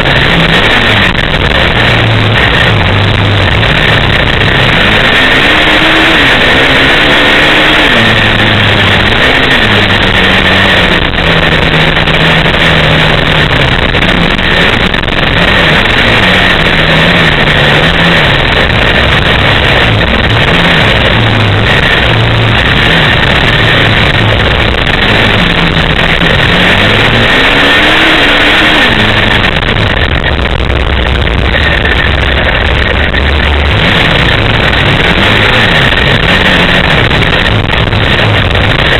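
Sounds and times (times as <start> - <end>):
dirt bike engine revving: 0.0 - 38.9
loud rush of noise: 0.0 - 38.9.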